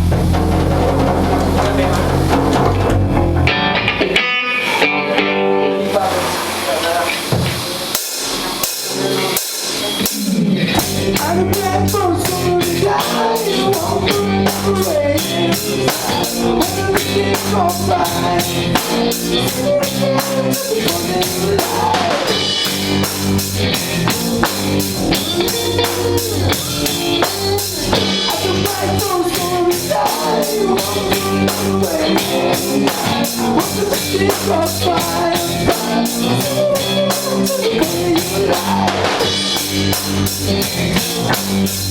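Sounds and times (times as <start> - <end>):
drum strokes: 0.0 - 5.0, 5.9 - 41.9
live rock band playing: 0.0 - 41.9.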